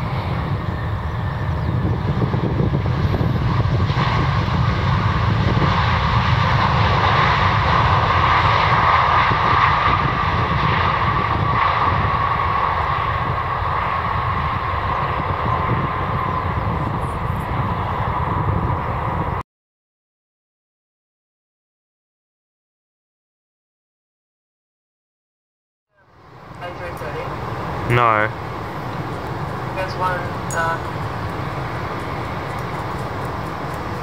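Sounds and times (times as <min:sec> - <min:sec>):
jet engines passing: 0:00.0 - 0:19.4, 0:26.0 - 0:34.0.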